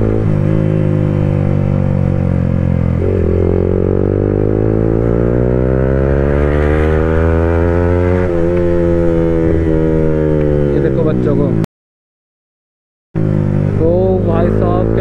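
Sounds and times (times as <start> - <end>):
motorcycle engine revving: 0.0 - 11.6, 13.2 - 15.0.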